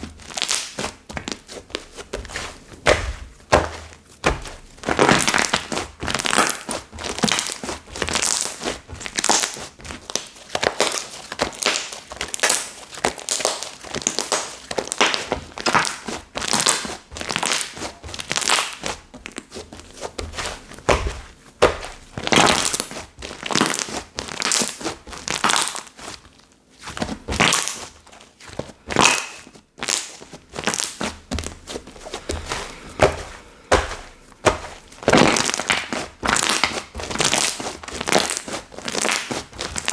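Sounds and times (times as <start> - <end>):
slime squishing: 0.0 - 39.9.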